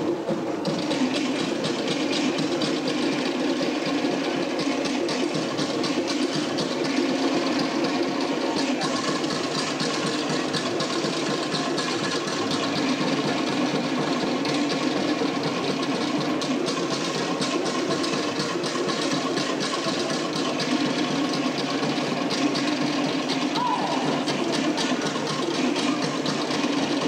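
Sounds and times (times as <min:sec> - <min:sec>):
drum ensemble rolling rhythm: 0:00.0 - 0:27.0.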